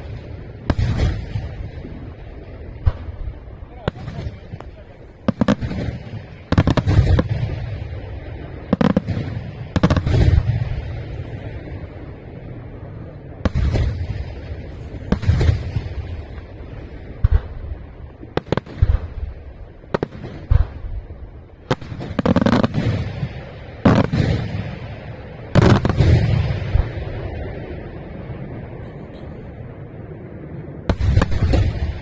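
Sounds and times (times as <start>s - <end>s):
fireworks booming: 0.0s - 32.0s.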